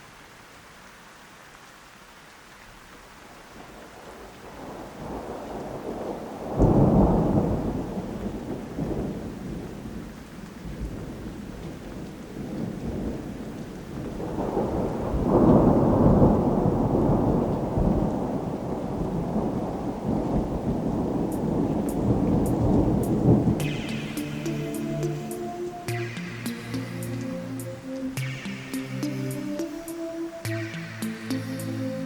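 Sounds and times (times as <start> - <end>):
steady rain: 0.0 - 32.0
thunder rumbling: 3.6 - 32.0.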